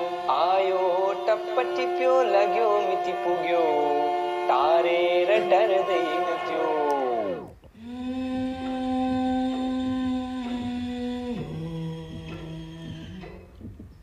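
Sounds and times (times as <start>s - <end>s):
man humming low notes: 0.0s - 14.0s.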